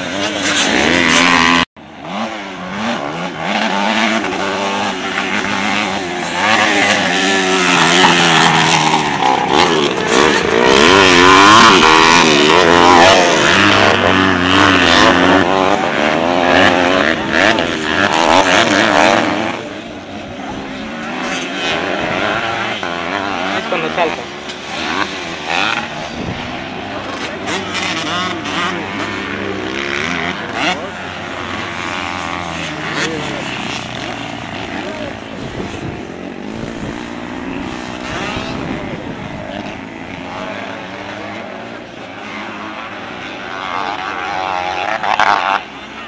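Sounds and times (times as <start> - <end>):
dirt bike engines revving: 0.0 - 46.0.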